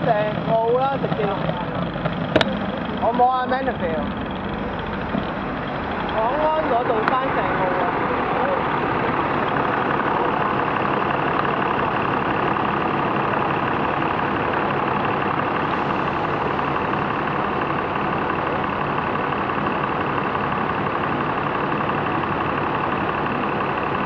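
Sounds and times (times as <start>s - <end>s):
bus diesel engine idling: 0.0s - 24.0s
traffic idling: 0.0s - 24.0s.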